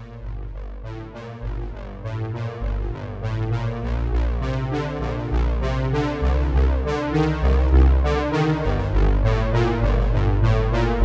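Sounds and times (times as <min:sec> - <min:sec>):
synthesizer music over deep bass: 0:00.0 - 0:11.0.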